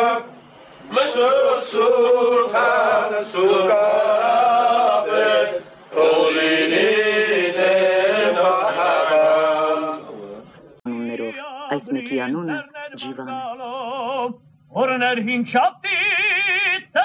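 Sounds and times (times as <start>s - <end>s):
voices singing slow melody: 0.0s - 14.9s.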